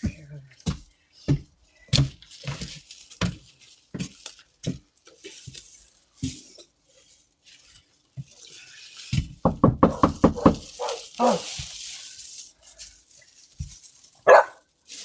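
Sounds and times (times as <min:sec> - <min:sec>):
thumps and scuffing: 0:00.0 - 0:06.8, 0:09.1 - 0:15.0.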